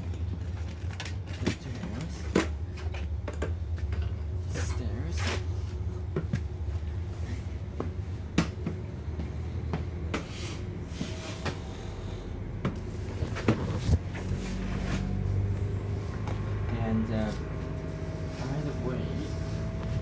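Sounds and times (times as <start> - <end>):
railcar low rumble: 0.0 - 20.0.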